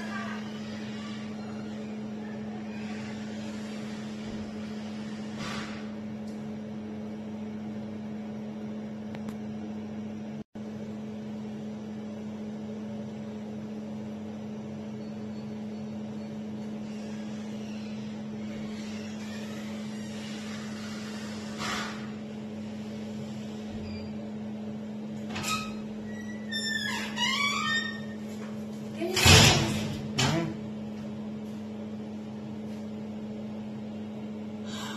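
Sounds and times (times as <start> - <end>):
low electrical hum: 0.0 - 34.9.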